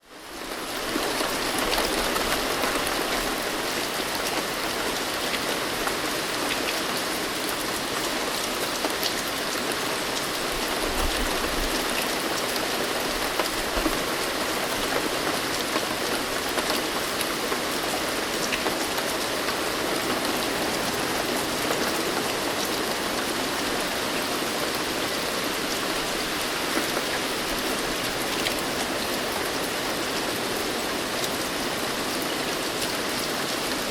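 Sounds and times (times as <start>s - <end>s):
dense rainfall: 0.0s - 33.9s.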